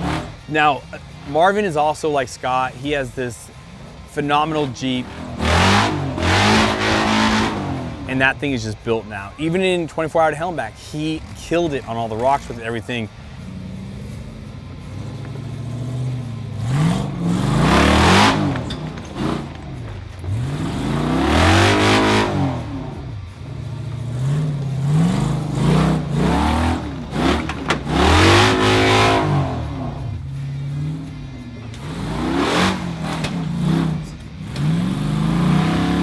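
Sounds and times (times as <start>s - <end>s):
engine revving hard: 0.0s - 1.9s, 3.8s - 9.2s, 13.4s - 36.0s.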